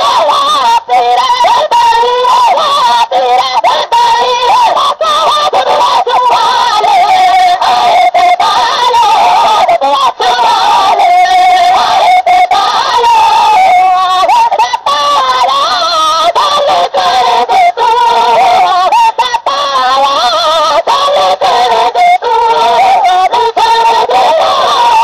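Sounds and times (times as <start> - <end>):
high voice devotional singing: 0.0 - 25.0.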